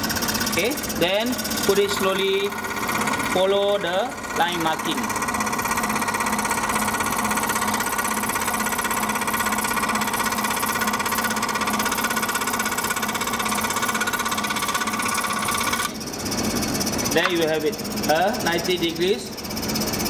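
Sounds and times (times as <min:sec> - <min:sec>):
scroll saw cutting: 0:00.0 - 0:19.3.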